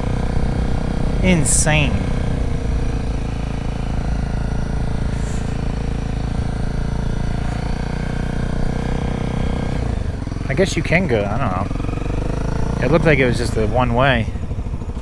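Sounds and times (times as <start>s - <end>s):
motorcycle engine idling low: 0.0s - 15.0s.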